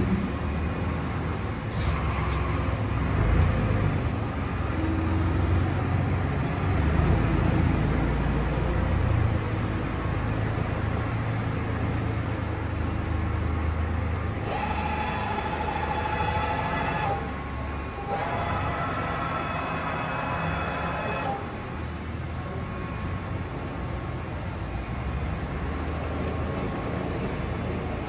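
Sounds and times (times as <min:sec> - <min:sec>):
lathe running with low hum: 0:00.0 - 0:26.8.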